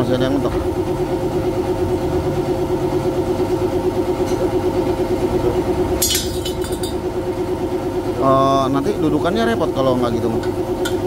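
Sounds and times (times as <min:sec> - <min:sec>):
motor droning with pulsing beat: 0:00.0 - 0:11.0.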